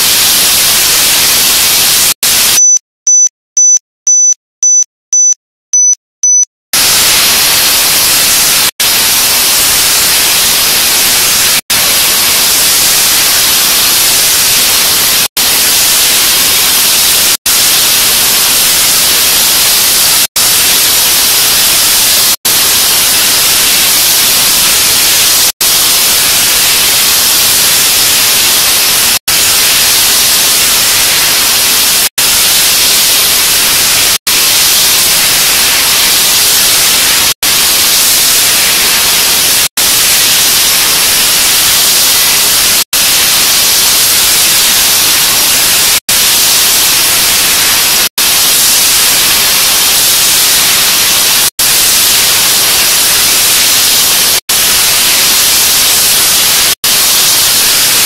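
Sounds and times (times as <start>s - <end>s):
water jets spraying: 0.0s - 2.6s, 6.8s - 58.0s.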